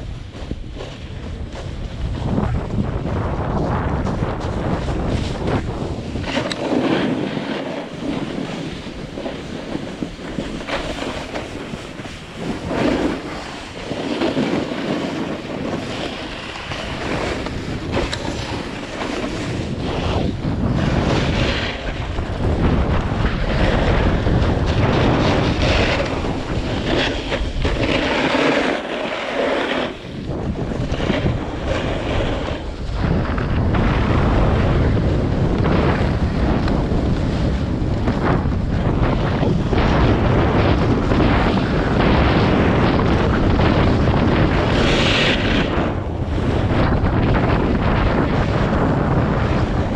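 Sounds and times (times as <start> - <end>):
ski edges scraping snow: 0.0 - 49.9
wind buffeting microphone: 0.0 - 49.9.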